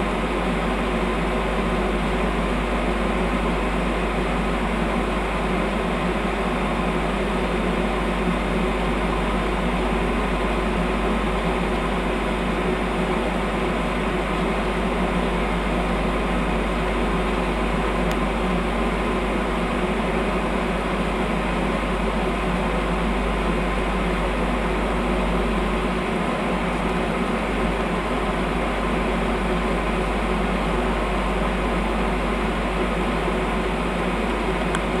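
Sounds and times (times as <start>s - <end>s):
train equipment whir and hum: 0.0s - 35.0s.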